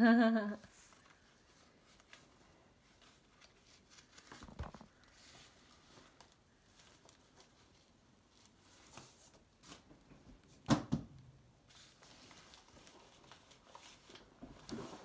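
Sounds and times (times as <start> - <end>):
paper rustling: 0.8 - 10.0, 11.6 - 15.0.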